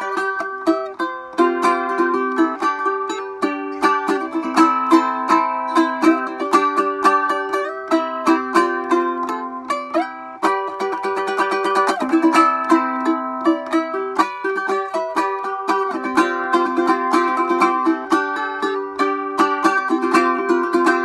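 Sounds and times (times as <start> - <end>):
plucked string instrumental music: 0.0 - 21.0.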